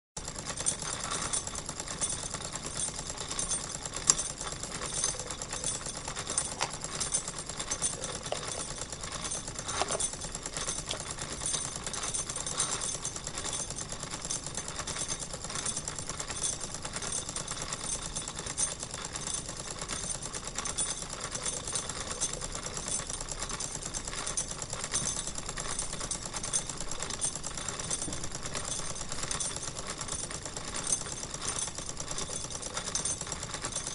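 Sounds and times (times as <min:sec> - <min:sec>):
toy steam engine running: 0:00.2 - 0:33.9.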